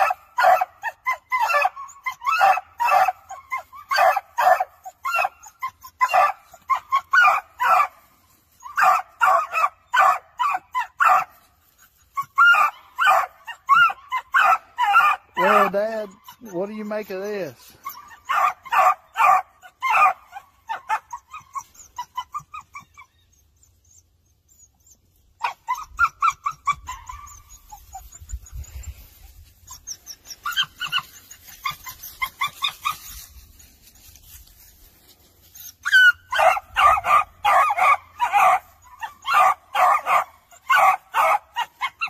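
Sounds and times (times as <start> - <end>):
small dog yapping: 0.0 - 8.0, 8.6 - 11.4, 12.1 - 16.6, 17.8 - 23.2, 25.4 - 28.3, 29.6 - 33.5, 35.7 - 42.0.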